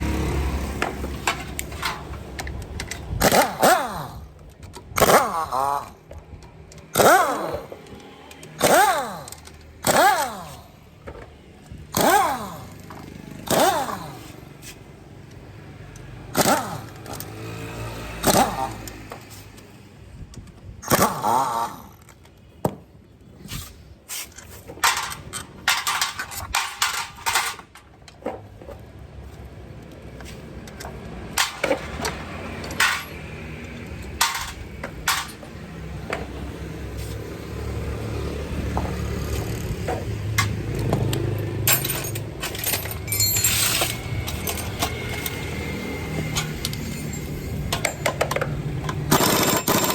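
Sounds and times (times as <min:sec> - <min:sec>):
metallic tool clicks and clanks: 0:00.8 - 0:14.5, 0:15.3 - 0:22.4, 0:24.1 - 0:28.2, 0:29.8 - 0:36.3, 0:39.2 - 0:49.9.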